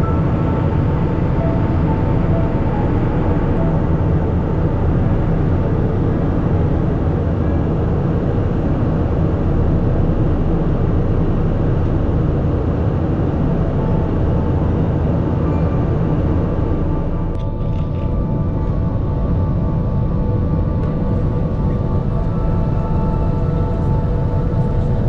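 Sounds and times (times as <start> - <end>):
faint steady hum: 0.0 - 25.0
jet engines rumbling: 0.0 - 25.0.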